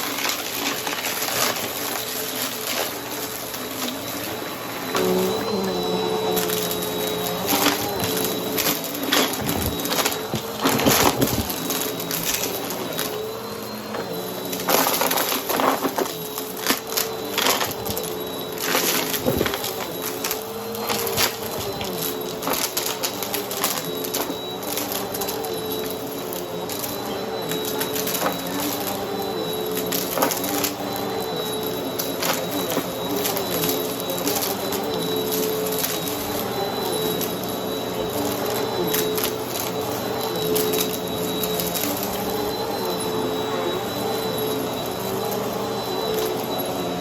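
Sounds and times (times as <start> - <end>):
vacuum cleaner motor humming: 0.0 - 47.0.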